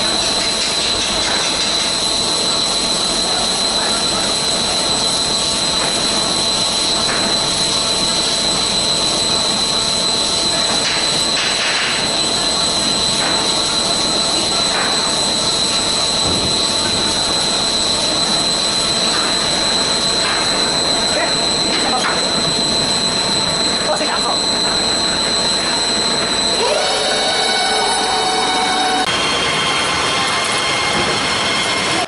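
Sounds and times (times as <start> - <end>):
high-pitched whine: 0.0 - 32.0.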